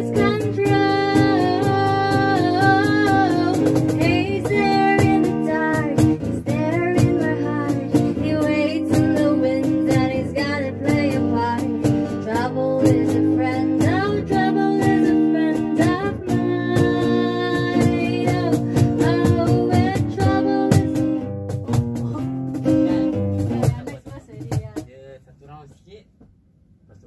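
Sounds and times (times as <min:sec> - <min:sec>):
woman singing: 0:00.0 - 0:21.2, 0:22.0 - 0:24.8
guitars playing chords: 0:00.0 - 0:24.2
cajon beat: 0:00.0 - 0:26.4.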